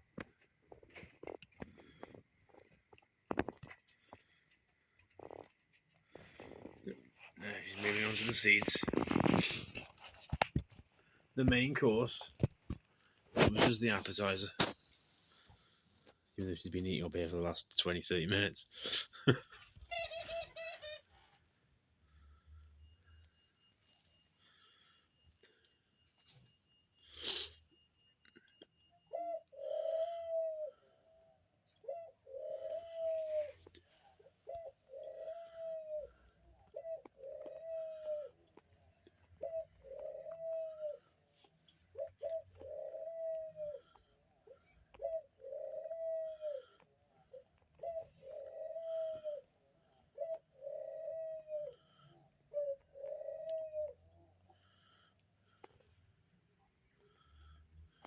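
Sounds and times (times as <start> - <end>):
dove cooing: 0.1 - 15.8, 19.3 - 21.5, 22.1 - 56.0, 56.8 - 58.0.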